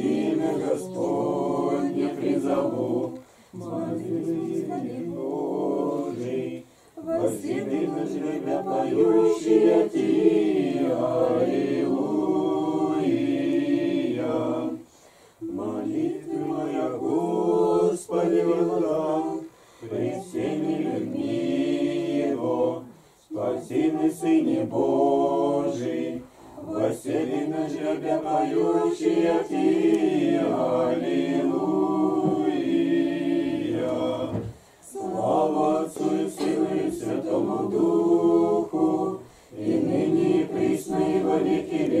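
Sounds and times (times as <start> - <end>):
group singing church chant: 0.0 - 42.0.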